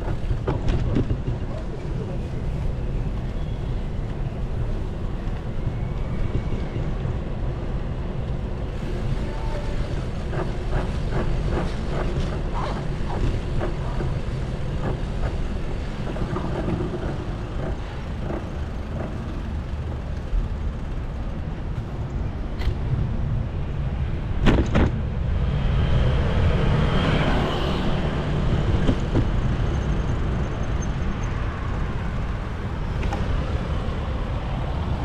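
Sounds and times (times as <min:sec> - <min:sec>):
road and traffic noise: 0:00.0 - 0:35.0
wind rumbling on camera: 0:00.0 - 0:35.0.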